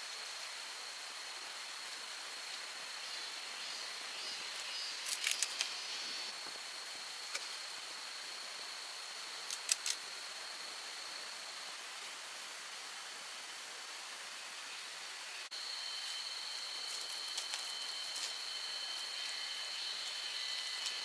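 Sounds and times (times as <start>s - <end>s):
hiss: 0.0s - 21.0s.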